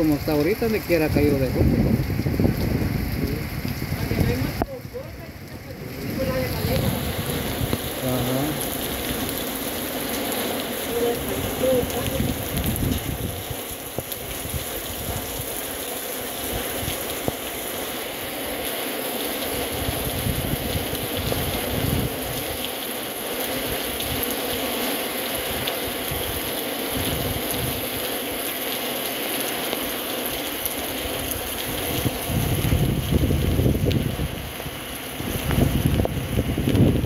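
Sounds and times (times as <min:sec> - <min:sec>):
wind rumbling on microphone: 0:00.0 - 0:17.9, 0:19.5 - 0:22.6, 0:23.6 - 0:24.6, 0:25.4 - 0:28.1, 0:30.6 - 0:37.0
steady rain falling: 0:00.0 - 0:37.0.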